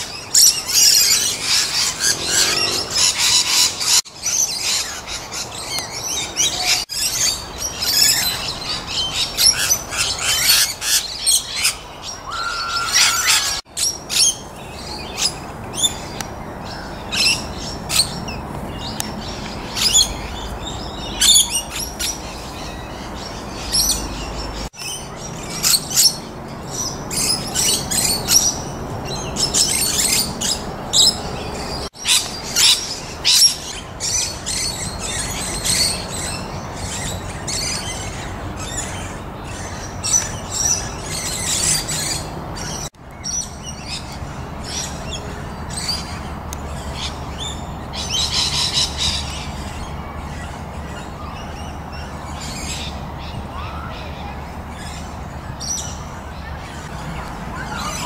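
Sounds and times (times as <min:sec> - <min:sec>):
wild birds chirping: 0:00.0 - 0:58.0.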